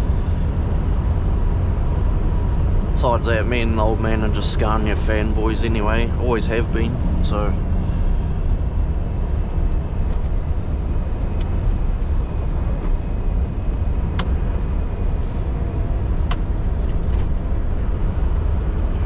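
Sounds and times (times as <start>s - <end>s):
truck diesel engine drone: 0.0s - 19.0s.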